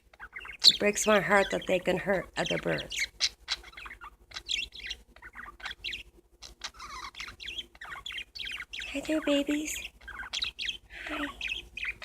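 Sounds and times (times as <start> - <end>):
parakeets chirping and chattering: 0.0 - 12.0.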